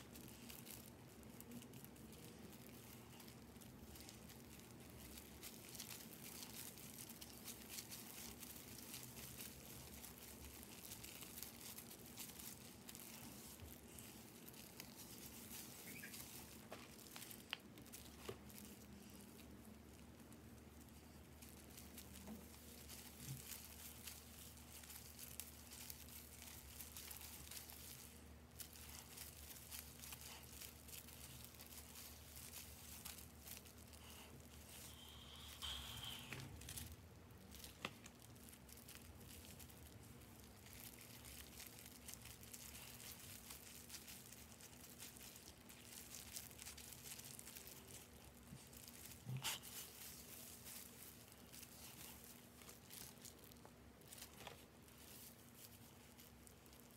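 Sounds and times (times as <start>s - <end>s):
gloved hands rustling in hair: 0.0s - 56.9s
low steady hum: 0.0s - 56.9s.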